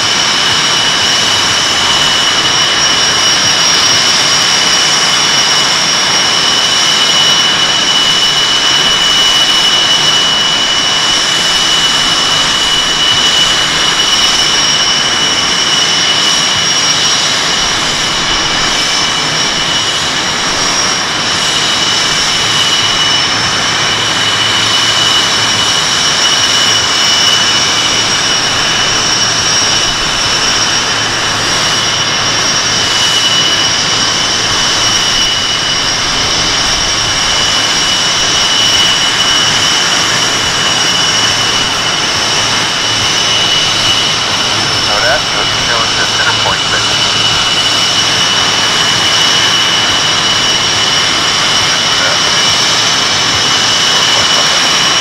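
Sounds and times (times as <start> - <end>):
high-pitched engine whine: 0.0 - 55.0
jet engines idling: 0.0 - 55.0.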